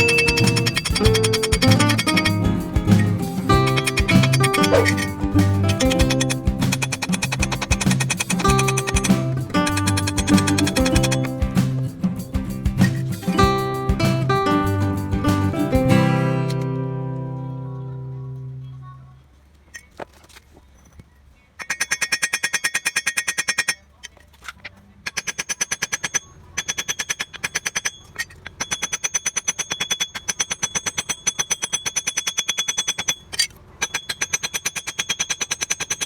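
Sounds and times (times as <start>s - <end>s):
rapid metallic clicking: 0.0s - 16.7s, 21.6s - 36.0s.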